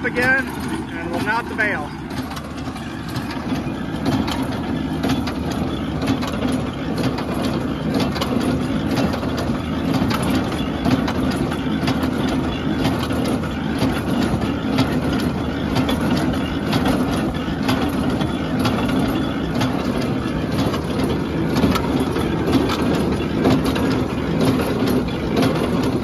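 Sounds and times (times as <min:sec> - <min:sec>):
baler clattering and knocking: 0:00.0 - 0:26.0
tractor engine drone: 0:00.0 - 0:26.0.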